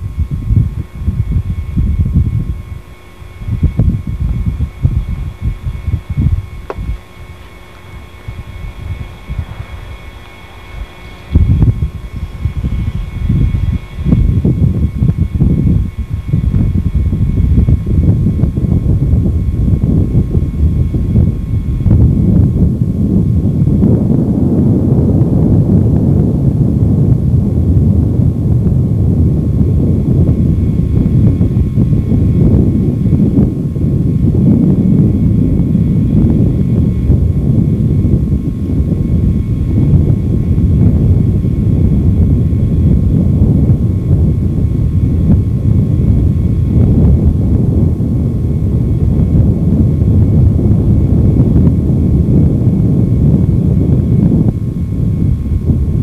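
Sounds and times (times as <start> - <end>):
wind and road noise rumble: 0.0 - 56.0.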